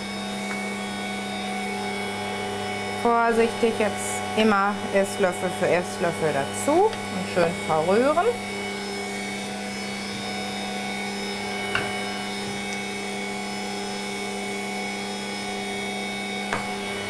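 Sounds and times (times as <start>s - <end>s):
stand mixer motor humming: 0.0s - 17.0s.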